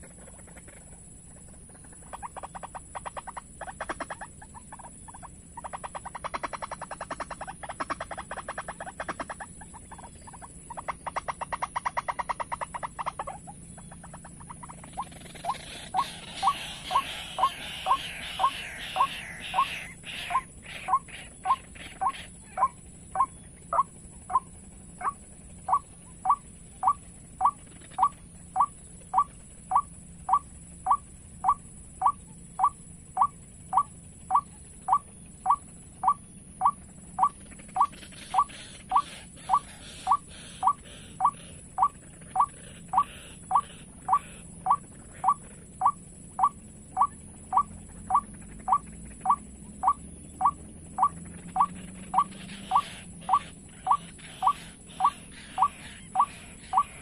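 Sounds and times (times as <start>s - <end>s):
waterhen call: 2.0s - 57.0s.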